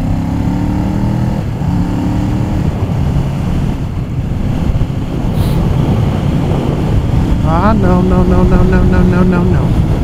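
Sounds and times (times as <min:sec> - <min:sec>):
motorcycle engine running: 0:00.0 - 0:10.0
wind on microphone: 0:00.9 - 0:10.0.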